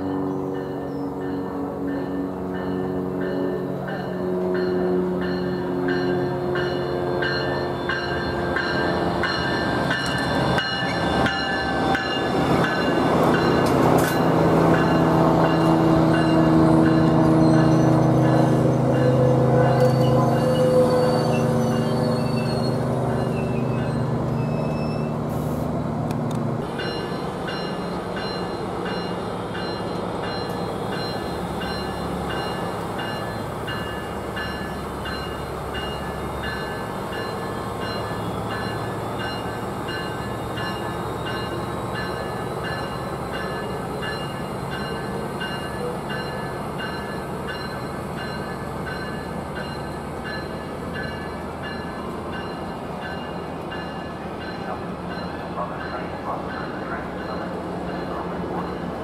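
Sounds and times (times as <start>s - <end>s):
train noise: 0.0s - 59.0s.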